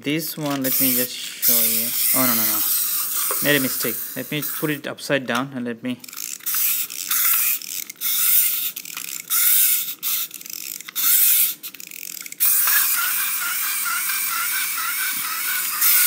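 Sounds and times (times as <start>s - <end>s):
toy car electric motor buzzing: 0.5s - 4.8s, 6.0s - 16.0s.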